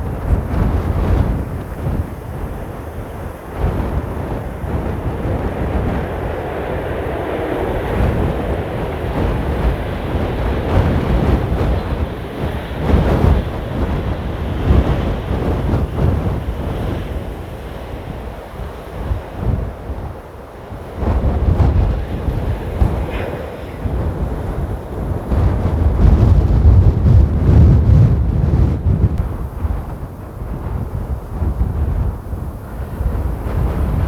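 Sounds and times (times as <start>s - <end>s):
jet airliner engine noise: 0.0s - 34.0s
wind buffeting microphone: 0.0s - 34.0s.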